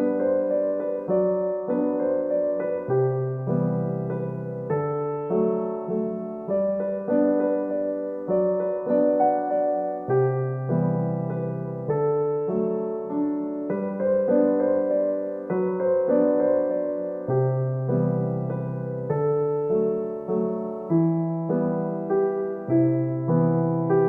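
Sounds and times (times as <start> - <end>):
gentle piano chords: 0.0 - 24.0.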